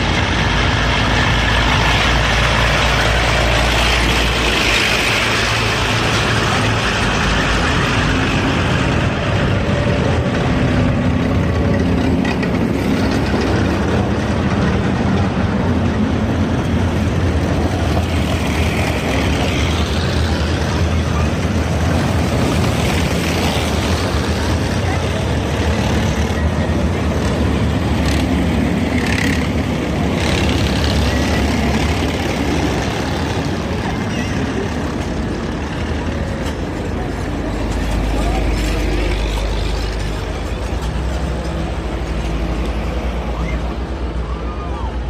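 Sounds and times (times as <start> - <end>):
armoured vehicle engine: 0.0 - 45.0
jeep and truck engines: 0.0 - 45.0.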